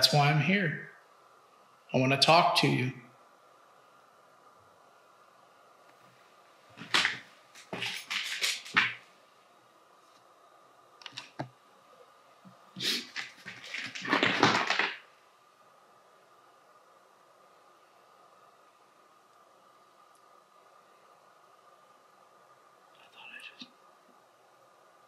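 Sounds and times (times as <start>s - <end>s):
faint high whine: 0.0s - 14.4s, 15.0s - 25.0s.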